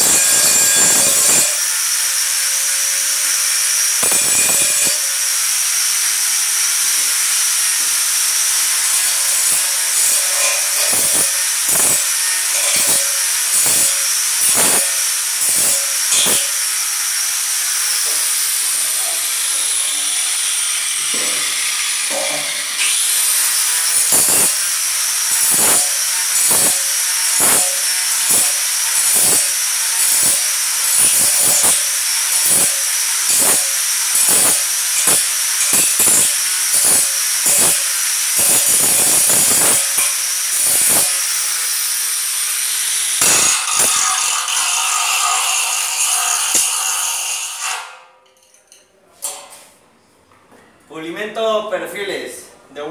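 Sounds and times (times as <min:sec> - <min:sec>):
angle grinder whining: 0:00.0 - 0:48.1.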